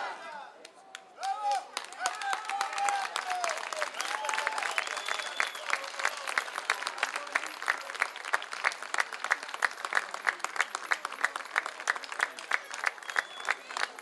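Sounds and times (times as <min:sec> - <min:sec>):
crowd applauding: 0:00.6 - 0:14.0
rhythmic sharp claps: 0:00.6 - 0:14.0.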